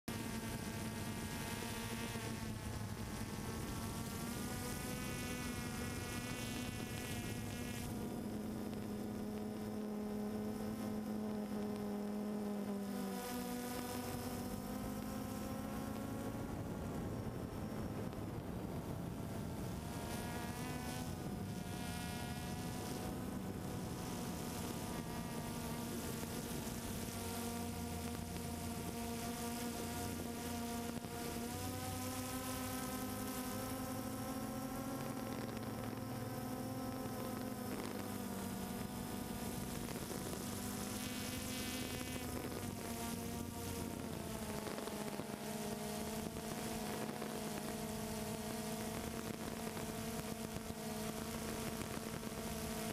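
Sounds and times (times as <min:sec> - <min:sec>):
drone motors whining: 0:00.1 - 0:52.9.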